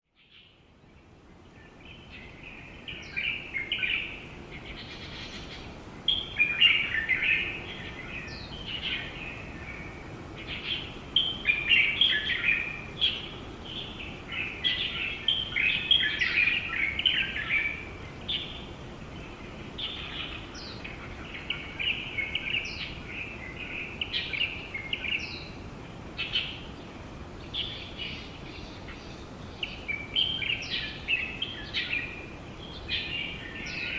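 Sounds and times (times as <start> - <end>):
wild birds chirping: 0.1 - 33.9.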